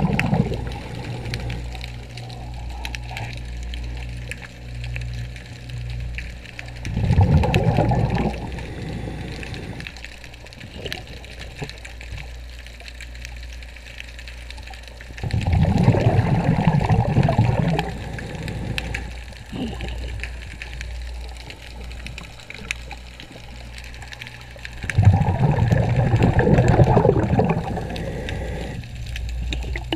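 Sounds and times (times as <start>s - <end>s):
breath bubbling from regulator underwater: 0.0s - 4.1s, 6.8s - 12.3s, 15.2s - 29.9s
low steady hum: 0.0s - 29.9s.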